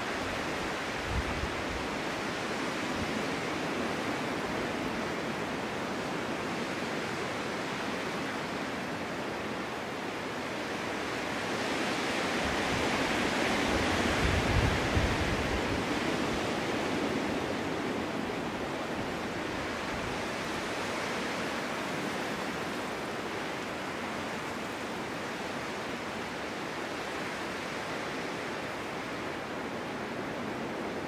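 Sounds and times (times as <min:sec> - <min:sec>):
snowstorm wind blowing: 0:00.0 - 0:31.0.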